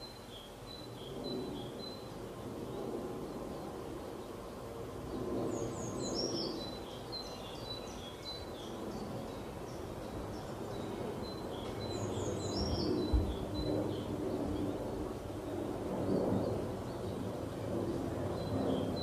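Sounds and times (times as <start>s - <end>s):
small songbird singing: 0.0s - 19.0s
steady low rumble: 1.0s - 19.0s.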